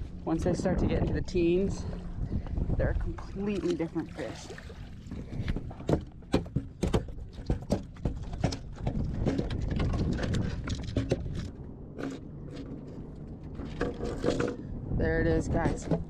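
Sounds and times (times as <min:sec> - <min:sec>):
knocks and thumps on a boat: 0:00.3 - 0:16.0.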